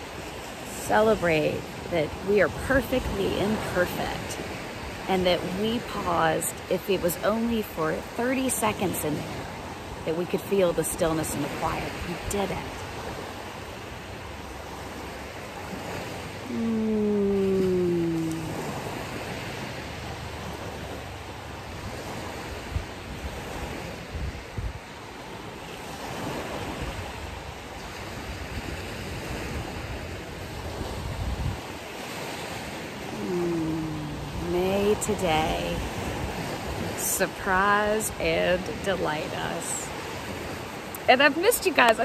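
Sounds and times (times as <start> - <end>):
ocean surf on shore: 0.0 - 42.0
wind: 0.0 - 42.0.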